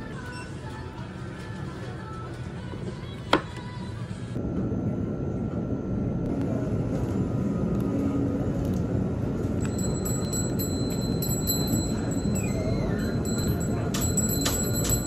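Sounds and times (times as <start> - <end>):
low hum of shop background: 0.0 - 15.0.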